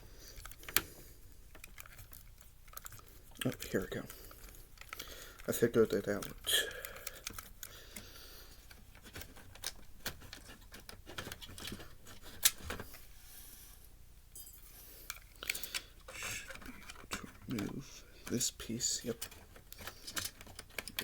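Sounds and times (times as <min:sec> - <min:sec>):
plastic and metal parts clicking: 0:00.3 - 0:12.9, 0:15.1 - 0:21.0.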